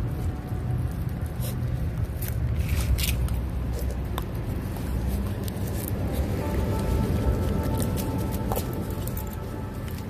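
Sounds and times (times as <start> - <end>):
puppies chewing: 0.0 - 10.0
sharp crunches and clicks: 0.0 - 10.0
steady low rumble: 0.0 - 10.0.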